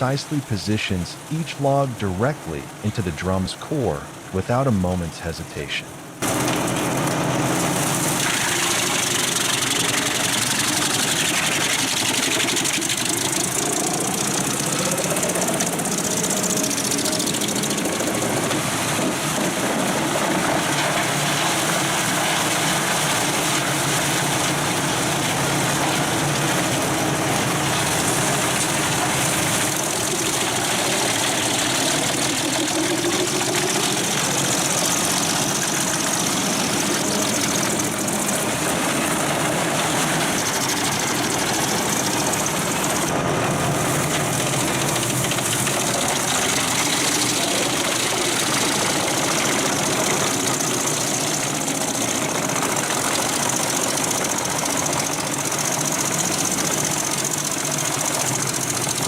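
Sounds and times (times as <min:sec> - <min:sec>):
drum chipper engine running: 0:00.0 - 0:59.0
steel drum chipping logs: 0:06.2 - 0:59.0.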